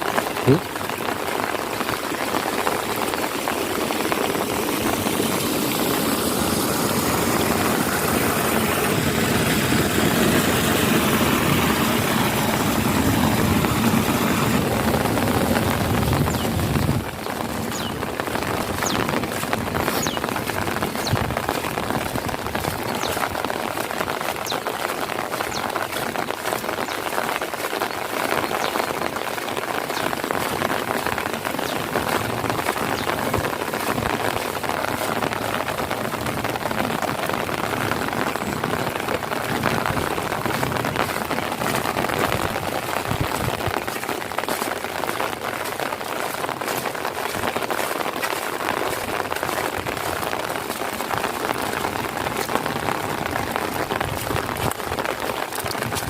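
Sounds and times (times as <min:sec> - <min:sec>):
heavy rain on puddles: 0:00.0 - 0:56.0.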